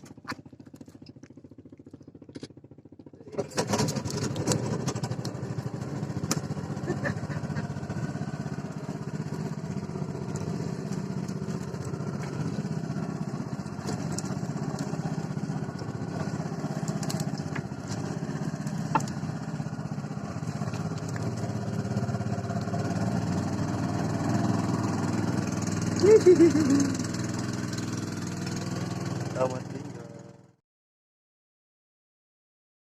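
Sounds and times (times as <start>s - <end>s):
small engine running: 0.0s - 30.6s.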